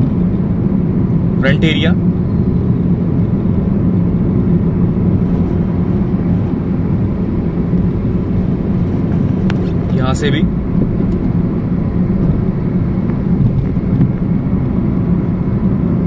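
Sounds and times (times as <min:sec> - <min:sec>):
low rumbling mechanical hum: 0:00.0 - 0:16.0.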